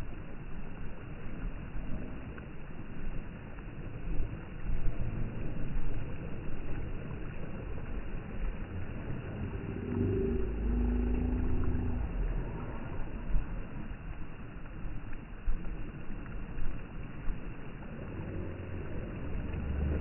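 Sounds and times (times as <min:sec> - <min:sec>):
low engine hum: 0:00.0 - 0:20.0
small waves washing: 0:00.0 - 0:20.0
wind rumbling on microphone: 0:00.0 - 0:20.0.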